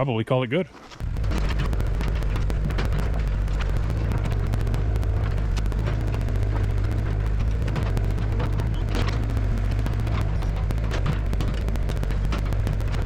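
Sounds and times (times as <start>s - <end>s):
excavator diesel engine running: 1.0s - 13.0s
machine clatter: 1.0s - 13.0s.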